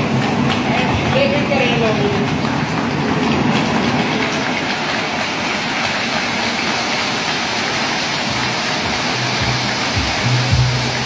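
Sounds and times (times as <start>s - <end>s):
spark fountains hissing: 0.0s - 11.0s.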